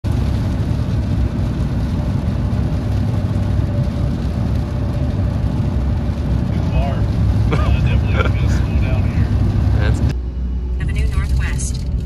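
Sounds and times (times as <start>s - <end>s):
car interior road and engine rumble: 0.1s - 12.0s.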